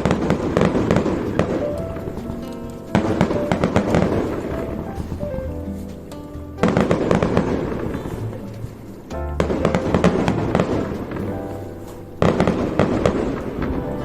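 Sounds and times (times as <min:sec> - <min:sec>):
fireworks bursting and crackling: 0:00.0 - 0:14.0
music playing: 0:00.0 - 0:14.0.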